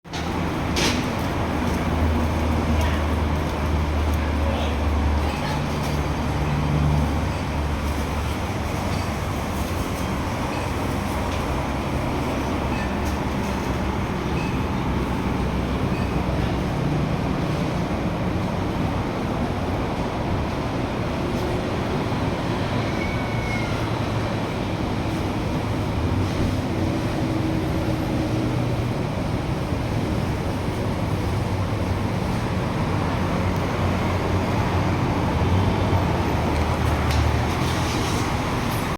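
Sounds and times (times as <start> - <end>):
vehicle rumble and hum: 0.1 - 38.9.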